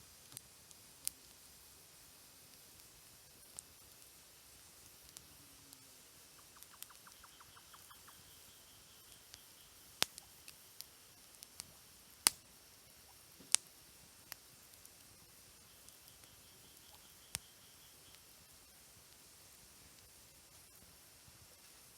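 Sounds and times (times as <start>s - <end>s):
faint rapid ticks: 0.0s - 21.9s
campfire crackling and popping: 0.1s - 21.9s.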